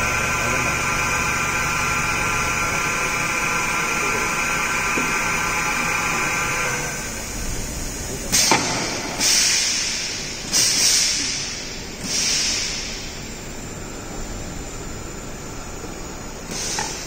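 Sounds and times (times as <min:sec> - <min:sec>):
machine table whine: 0:00.0 - 0:10.4, 0:11.1 - 0:17.0.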